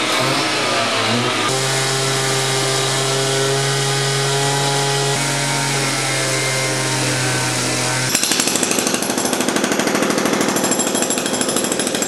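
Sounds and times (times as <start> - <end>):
cut-off saw cutting concrete: 0.0 - 12.0
jackhammer hammering concrete: 0.0 - 12.0.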